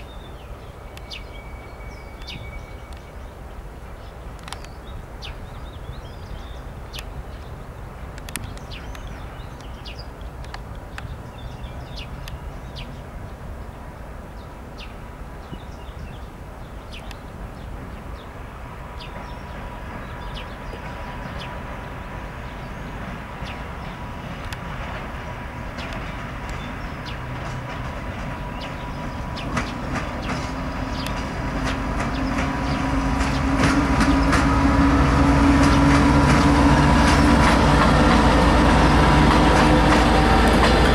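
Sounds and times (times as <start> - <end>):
diesel train whine and rumble: 0.0 - 10.9, 17.3 - 40.9
small birds chirping: 0.0 - 13.7, 14.3 - 34.4.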